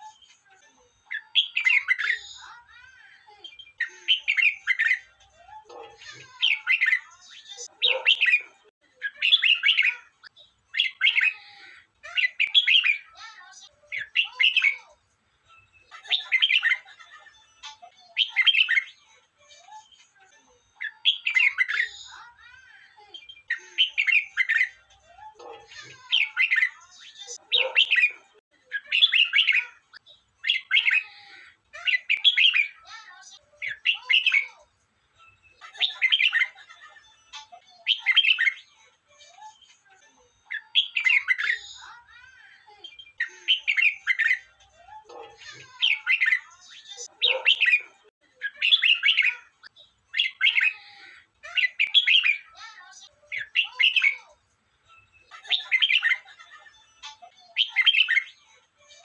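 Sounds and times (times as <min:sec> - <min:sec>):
bird singing warbled phrases: 0:00.0 - 0:59.0.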